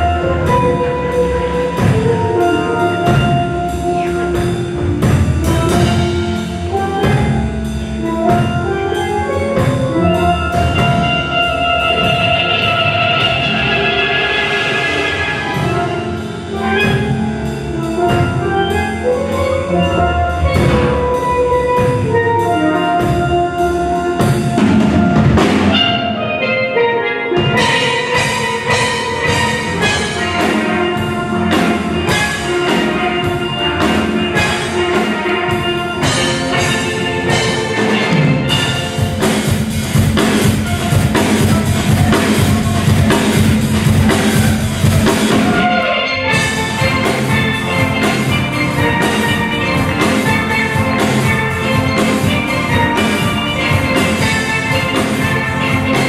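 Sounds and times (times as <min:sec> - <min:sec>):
steel band playing: 0:00.0 - 0:56.0.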